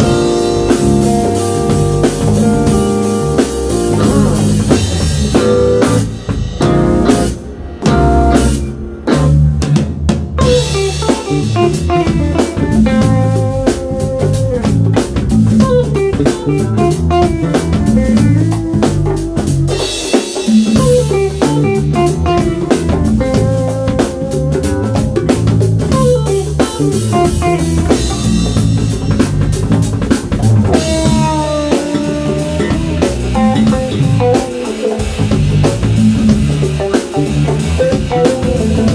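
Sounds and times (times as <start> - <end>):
electric guitar lead: 0.0 - 38.9
live band playing: 0.0 - 38.9.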